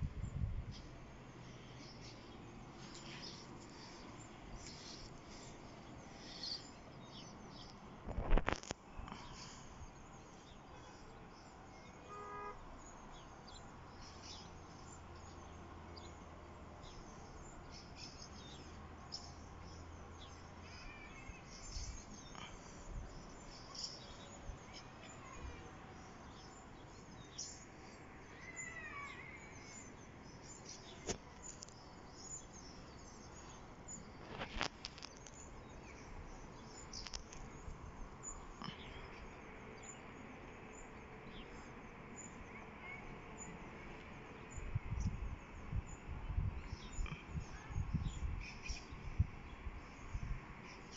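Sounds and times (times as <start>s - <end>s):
faint outdoor background noise: 0.0s - 50.9s.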